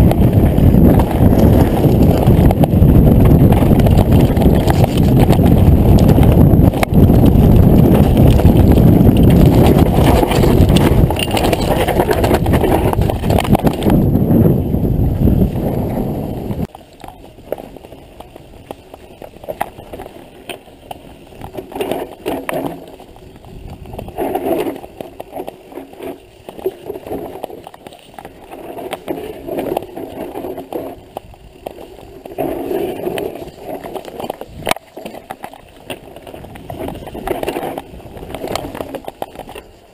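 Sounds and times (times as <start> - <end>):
bike clicks and clatter: 0.0 - 39.9
bike rushing and rattling: 0.0 - 39.9.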